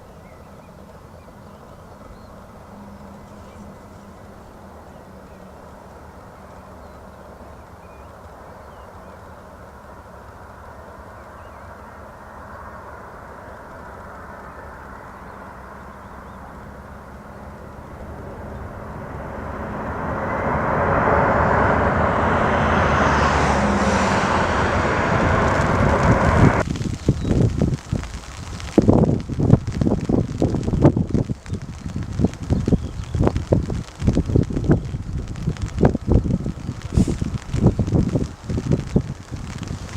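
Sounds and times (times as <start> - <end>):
jet airliner engines rumbling: 0.0 - 39.9.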